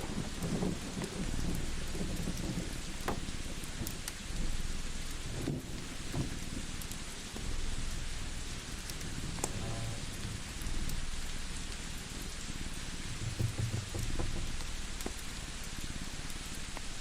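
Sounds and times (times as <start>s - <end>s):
low pulsing rumble: 0.0s - 16.2s
rain hiss: 0.0s - 17.0s
wood fire crackling: 0.0s - 17.0s.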